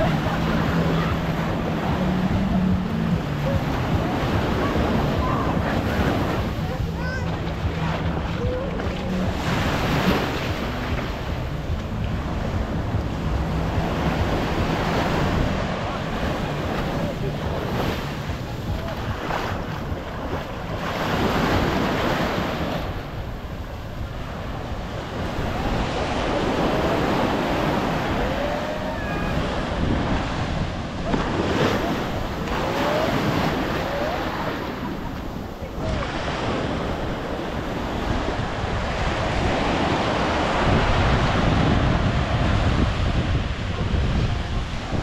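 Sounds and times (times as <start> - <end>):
ocean surf breaking: 0.0 - 45.0
wind buffeting microphone: 0.0 - 45.0.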